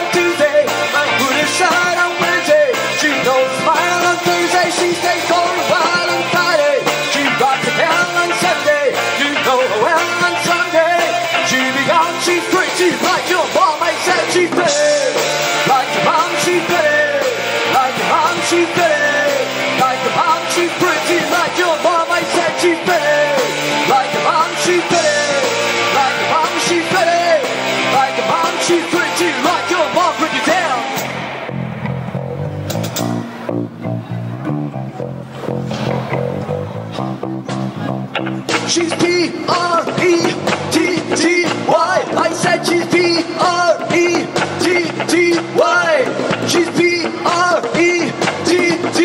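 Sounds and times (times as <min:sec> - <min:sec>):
man singing into a microphone: 0:00.0 - 0:31.0, 0:38.5 - 0:49.0
drum kit: 0:00.0 - 0:33.9, 0:35.2 - 0:49.0
electric guitars: 0:00.0 - 0:49.0.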